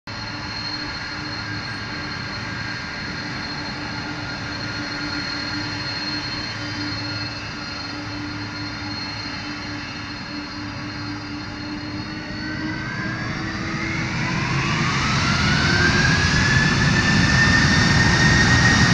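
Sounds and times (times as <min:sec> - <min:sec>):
jet engines roaring: 0:00.1 - 0:18.9
thin high engine whine: 0:00.1 - 0:18.9.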